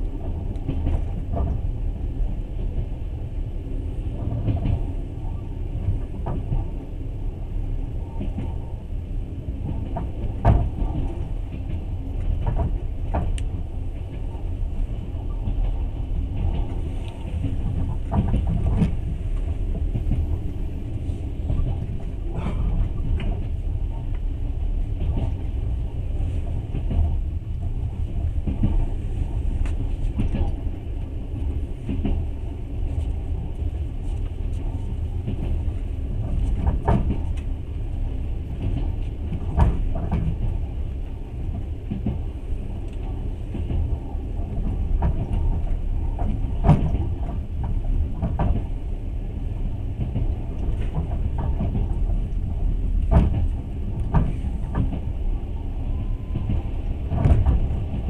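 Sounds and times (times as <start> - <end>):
train clicks and knocks: 0.0 - 58.0
train rumbling: 0.0 - 58.0.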